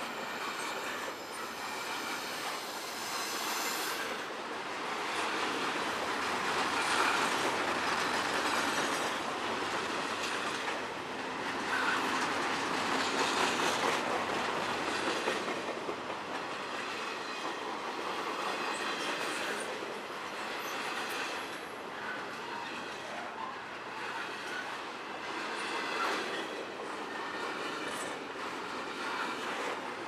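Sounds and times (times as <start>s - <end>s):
freight train wheels rolling on rails: 0.0s - 30.0s.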